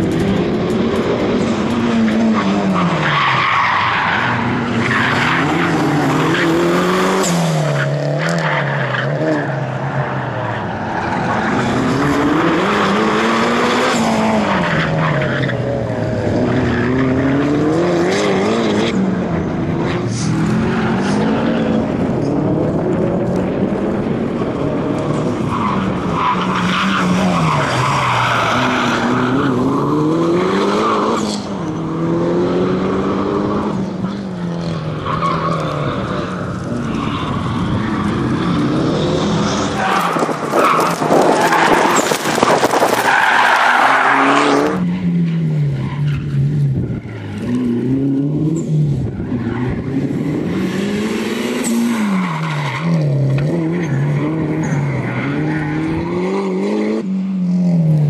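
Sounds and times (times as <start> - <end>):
car engine revving: 0.0 - 58.0
tyres squealing and skidding: 1.4 - 22.3, 25.0 - 31.9, 33.8 - 57.0.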